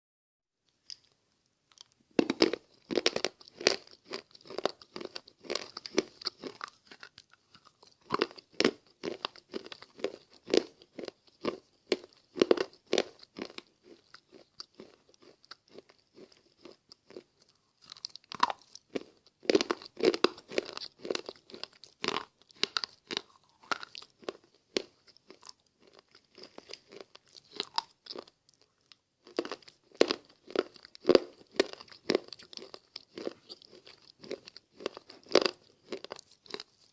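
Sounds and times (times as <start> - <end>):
crunching and chewing: 0.7 - 36.9.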